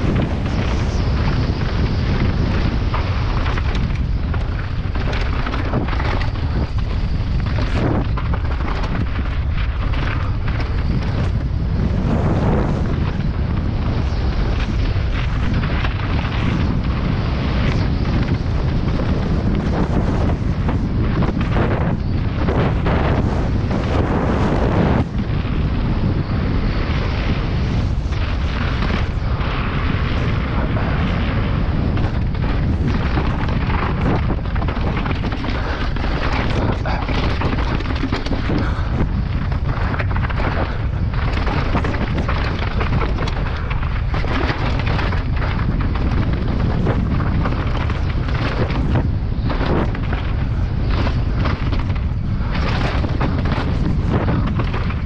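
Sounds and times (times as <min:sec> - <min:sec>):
bike tyres clattering over trail: 0:00.0 - 0:55.0
wind rushing on microphone: 0:00.0 - 0:55.0.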